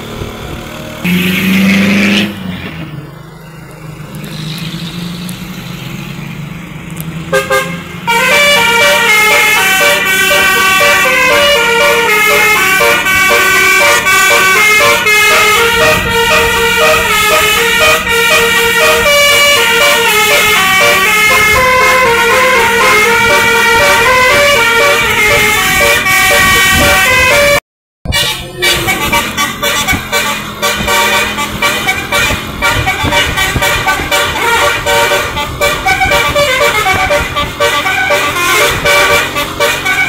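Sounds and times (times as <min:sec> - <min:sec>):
bus engine hum: 0:00.0 - 0:40.0
multi-tone bus horn tune: 0:01.0 - 0:02.8, 0:07.2 - 0:40.0.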